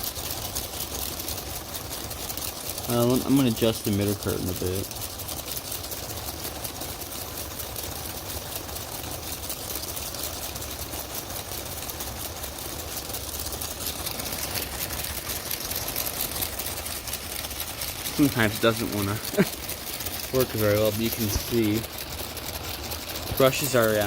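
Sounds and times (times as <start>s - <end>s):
rapid fine clicking: 0.0s - 24.0s
small electric motors whirring: 0.0s - 24.0s.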